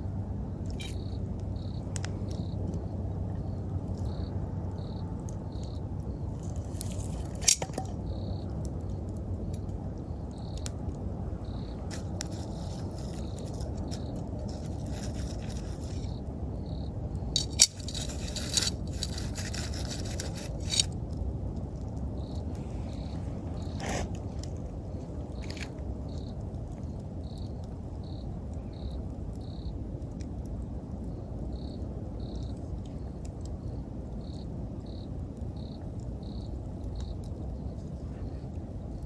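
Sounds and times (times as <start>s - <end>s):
campfire crackling and popping: 0.0s - 39.0s
insects chirping: 0.0s - 39.0s.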